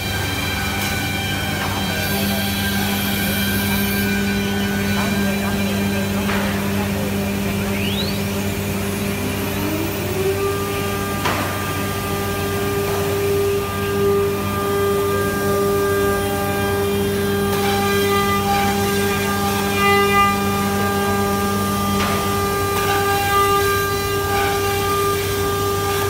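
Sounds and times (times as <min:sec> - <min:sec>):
dust extraction hum: 0:00.0 - 0:26.0
router spindle motors whining: 0:00.0 - 0:26.0.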